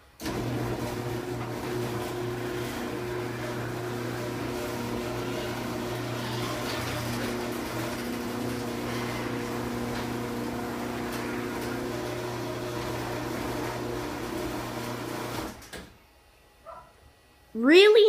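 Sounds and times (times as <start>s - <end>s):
garage door opener motor hum: 0.0s - 16.0s.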